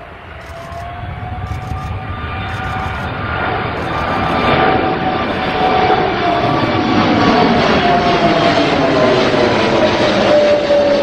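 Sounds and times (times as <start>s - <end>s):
jet engines low rumble: 0.0s - 11.0s
turbine whine: 0.0s - 11.0s.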